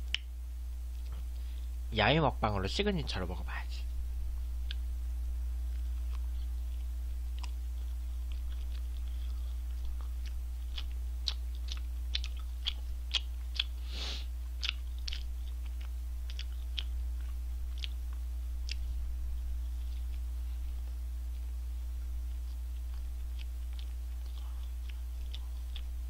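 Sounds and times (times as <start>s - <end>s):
steady low hum: 0.0s - 26.0s
crunchy chewing: 4.3s - 26.0s.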